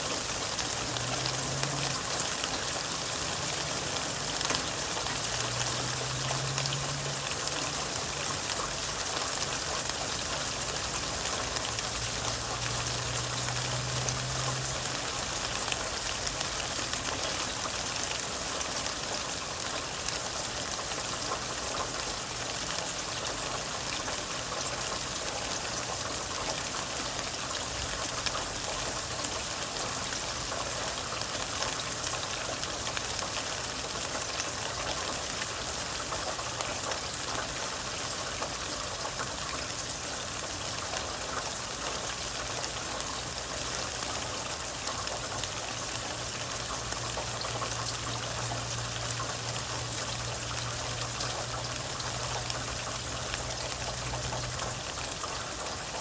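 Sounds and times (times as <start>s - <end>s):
rain dripping: 0.0s - 56.0s.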